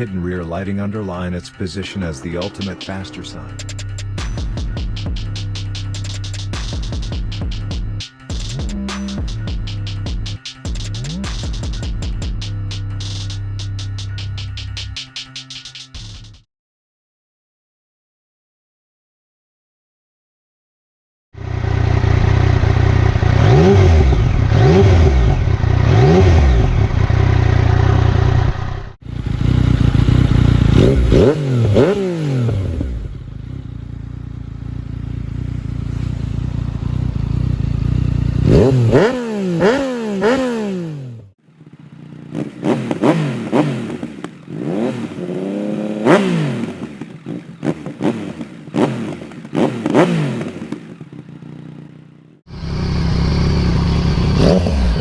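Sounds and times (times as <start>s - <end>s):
motorcycle engine revving: 1.8s - 15.4s, 21.4s - 55.0s.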